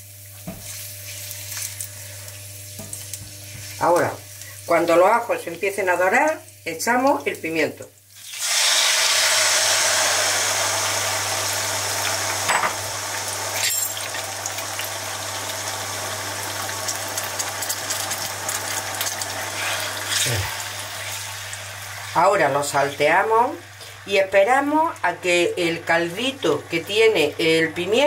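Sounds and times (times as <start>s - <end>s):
peppers sizzling in hot oil: 0.0s - 28.0s.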